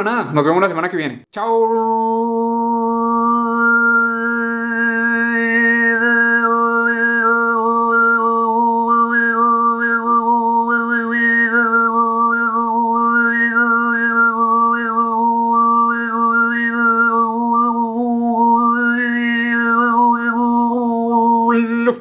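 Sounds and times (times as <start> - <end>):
voice droning: 1.4 - 22.0.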